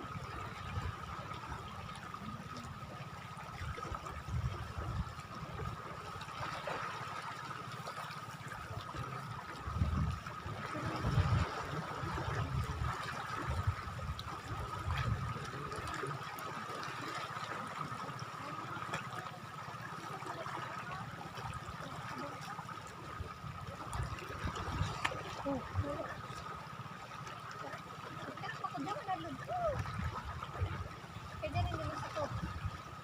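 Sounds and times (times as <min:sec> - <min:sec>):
water lapping at shoreline: 0:00.0 - 0:33.0.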